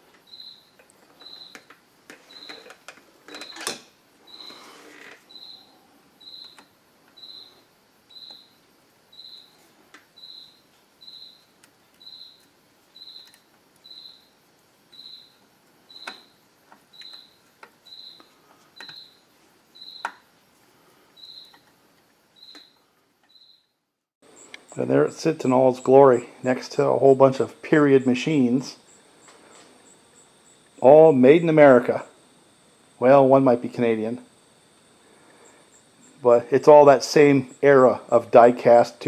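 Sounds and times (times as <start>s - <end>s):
cricket chirping: 0.1s - 39.0s.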